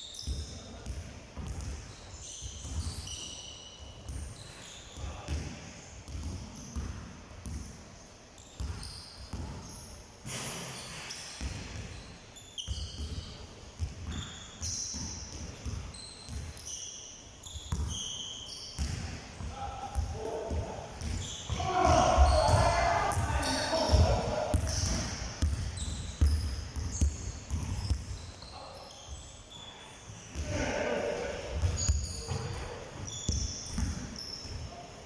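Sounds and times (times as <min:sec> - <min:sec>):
sneakers squeaking on floor: 0:00.0 - 0:07.8, 0:08.4 - 0:35.0
basketballs bouncing on court: 0:00.2 - 0:03.4, 0:04.0 - 0:07.8, 0:08.6 - 0:10.4, 0:11.4 - 0:16.7, 0:17.4 - 0:18.2, 0:18.8 - 0:29.2, 0:30.3 - 0:34.8.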